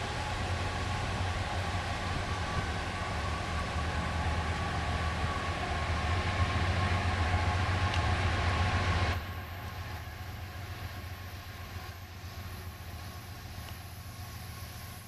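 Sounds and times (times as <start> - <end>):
train engine hum: 0.0 - 15.0
wheel and track noise: 0.0 - 15.0.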